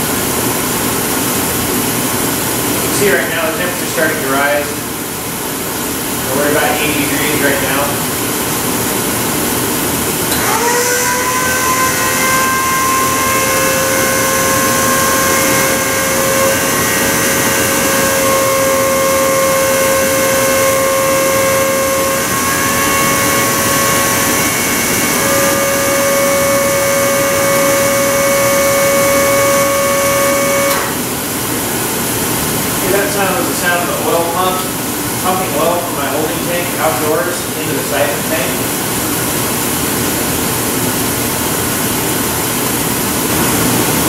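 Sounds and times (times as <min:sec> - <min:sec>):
furnace burner and blower rushing: 0:00.0 - 0:44.0.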